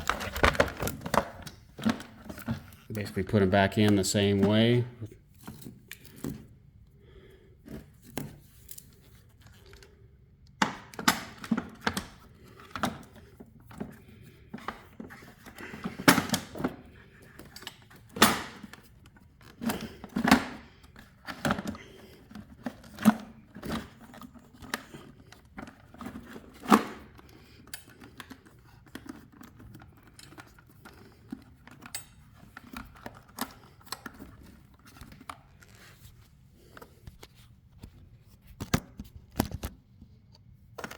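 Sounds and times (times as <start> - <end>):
batteries and plastic parts rattling: 0.0 - 6.6, 7.6 - 37.5.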